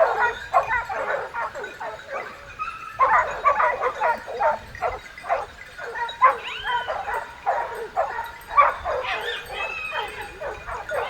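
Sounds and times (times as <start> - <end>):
hunting dogs baying and yelping: 0.0 - 11.0.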